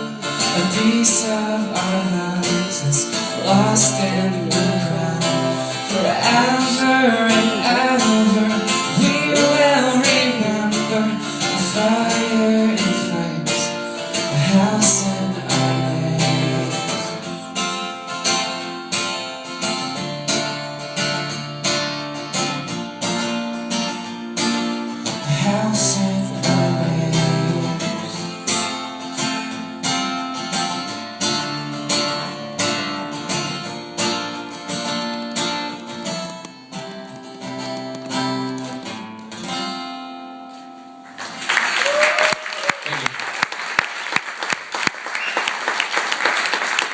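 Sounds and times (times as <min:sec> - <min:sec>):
acoustic guitar strumming: 0:00.0 - 0:41.4.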